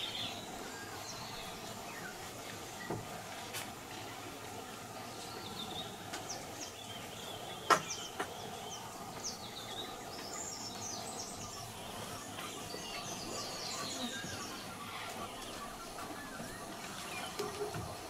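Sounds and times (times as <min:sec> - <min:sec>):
birds chirping: 0:00.0 - 0:18.0
steady outdoor background: 0:00.0 - 0:18.0.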